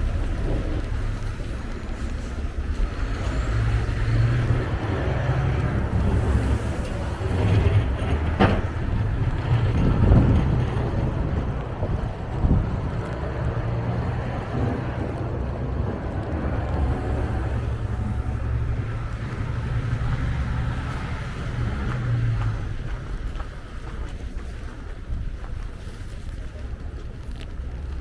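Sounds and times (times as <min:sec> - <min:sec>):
vehicle engine rumbling: 0:00.0 - 0:28.0
wind buffeting microphone: 0:00.0 - 0:28.0.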